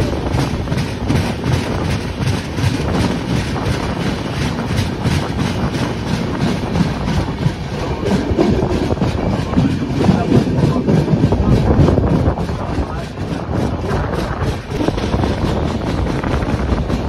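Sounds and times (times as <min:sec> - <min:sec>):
train wheels clattering on track: 0:00.0 - 0:17.0.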